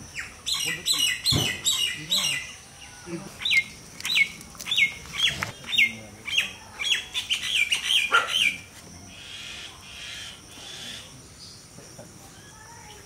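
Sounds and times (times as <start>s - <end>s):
bird calling: 0.0s - 11.6s.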